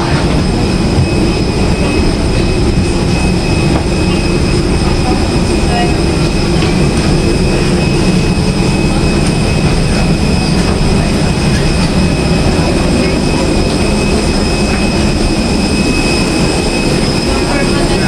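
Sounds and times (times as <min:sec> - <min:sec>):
airliner cabin rumble: 0:00.0 - 0:18.0
high whine: 0:00.0 - 0:18.0.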